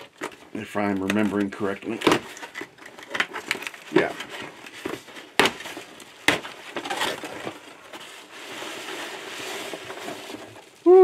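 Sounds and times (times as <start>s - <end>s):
cardboard and tape ripping: 0.1s - 10.8s.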